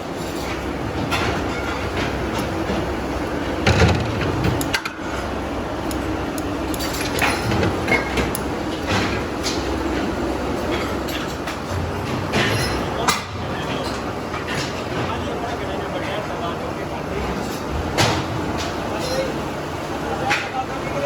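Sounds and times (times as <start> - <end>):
factory machinery rumbling: 0.0 - 21.0.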